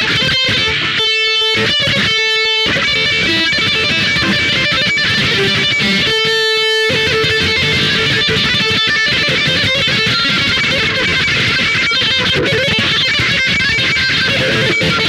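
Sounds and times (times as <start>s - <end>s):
band playing: 0.0s - 13.6s
electric guitar lead: 0.0s - 15.0s.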